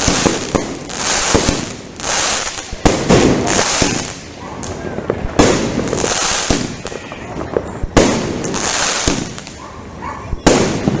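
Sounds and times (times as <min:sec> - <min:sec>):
fireworks bursting with bangs: 0:00.0 - 0:11.0.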